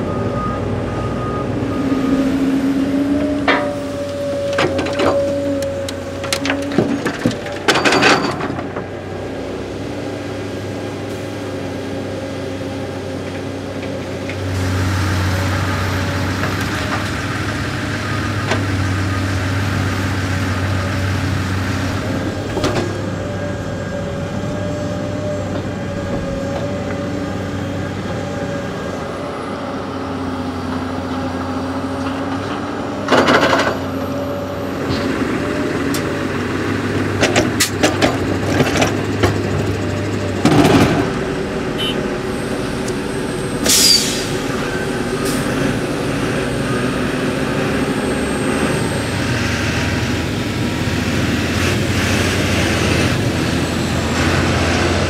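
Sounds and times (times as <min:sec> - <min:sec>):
excavator diesel engine and hydraulics: 0:00.0 - 0:55.0
tractor engine running: 0:00.0 - 0:55.0.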